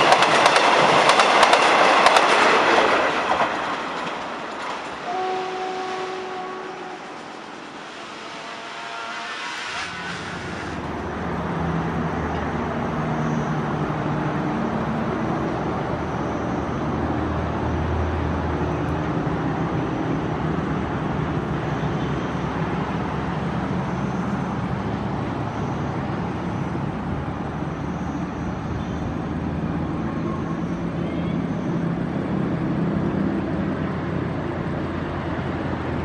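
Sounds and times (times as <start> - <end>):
diesel locomotive engine humming: 0.0 - 36.0.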